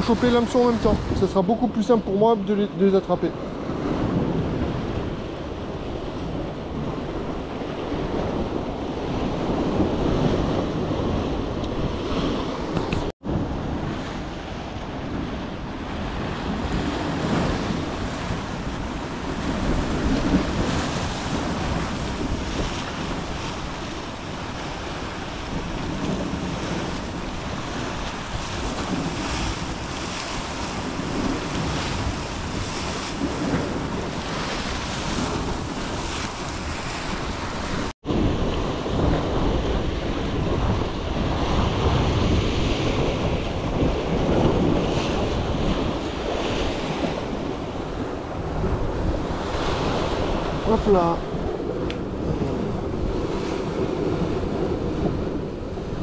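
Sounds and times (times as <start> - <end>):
sea surf washing against rocks: 0.0 - 56.0
wind buffeting microphone: 0.0 - 56.0.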